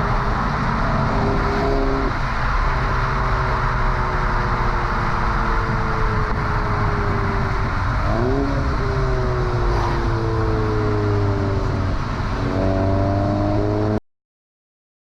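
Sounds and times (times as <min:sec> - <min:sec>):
car engine while driving: 0:00.0 - 0:14.0
road and wind noise: 0:00.0 - 0:14.0.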